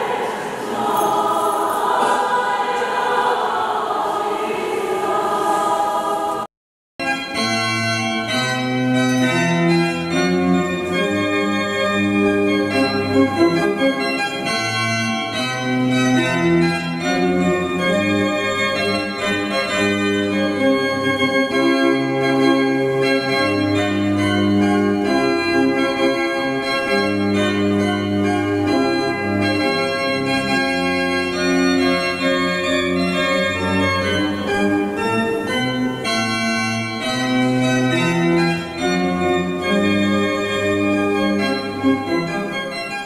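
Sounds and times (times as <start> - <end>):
organ chords: 7.0 - 43.0.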